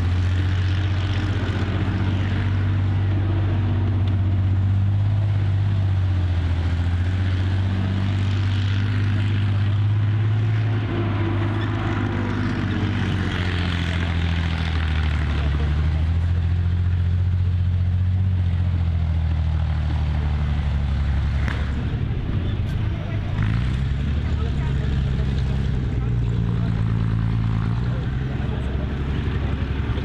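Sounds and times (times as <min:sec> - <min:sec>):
large vehicle engine running: 0:00.0 - 0:30.0.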